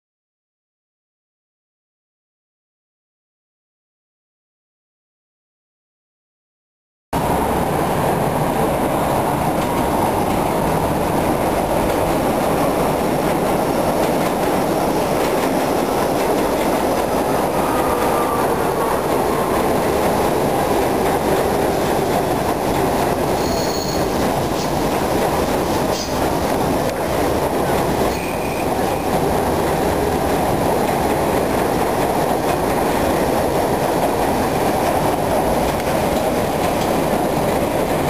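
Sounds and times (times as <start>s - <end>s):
subway train passing: 7.2s - 38.0s.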